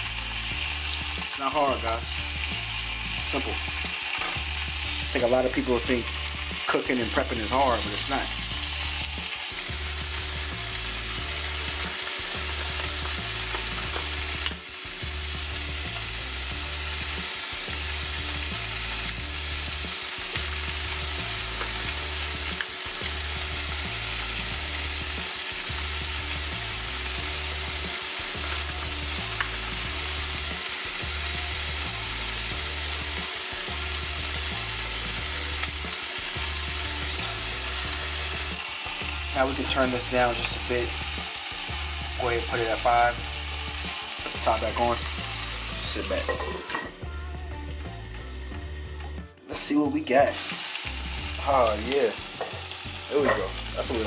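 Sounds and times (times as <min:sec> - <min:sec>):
chicken sizzling in a skillet: 0:00.0 - 0:54.0.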